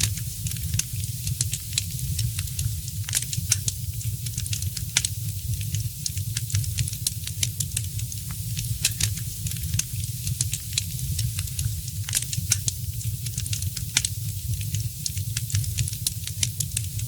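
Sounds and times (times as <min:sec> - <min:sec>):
low rumble and hiss of fire: 0:00.0 - 0:17.0
wood fire crackling and popping: 0:00.0 - 0:17.0.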